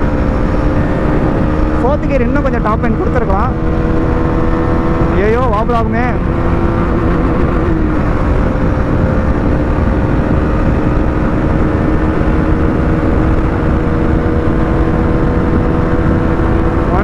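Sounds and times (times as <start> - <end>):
motorcycle engine at high revs: 0.0 - 17.0
rushing wind noise: 0.0 - 17.0.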